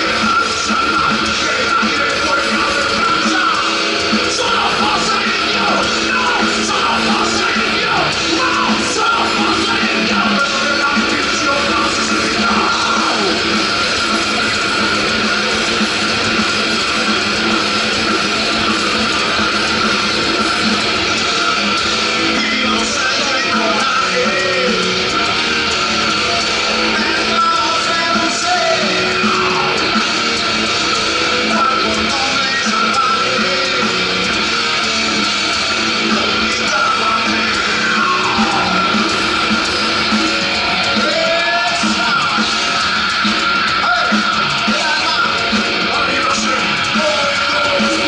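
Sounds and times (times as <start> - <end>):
drums: 0.0 - 48.0
electric guitar: 0.0 - 48.0
heavy metal band playing live: 0.0 - 48.0.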